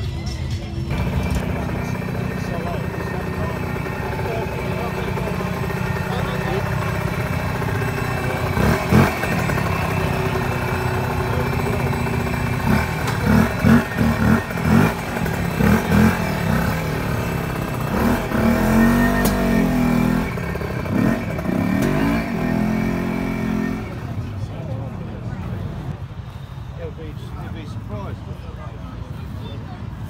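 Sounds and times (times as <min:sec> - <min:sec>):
motorcycle engine revving: 0:00.9 - 0:26.0.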